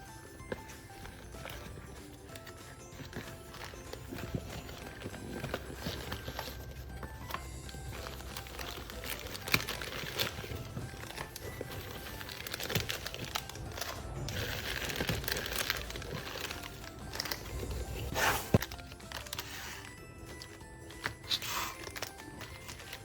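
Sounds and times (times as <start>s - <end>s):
background music: 0.0s - 23.0s
paper crinkling and rustling: 0.0s - 23.0s.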